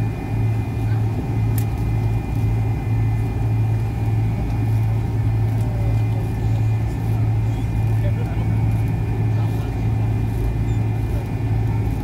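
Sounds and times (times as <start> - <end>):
jet engines idling hum: 0.0 - 12.0.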